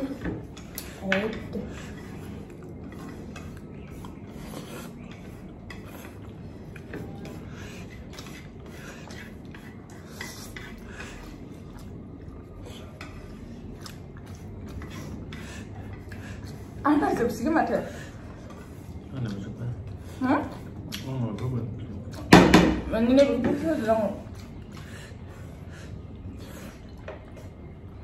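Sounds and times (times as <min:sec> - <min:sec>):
utensils stirring noodles in a dish: 0:00.0 - 0:27.8.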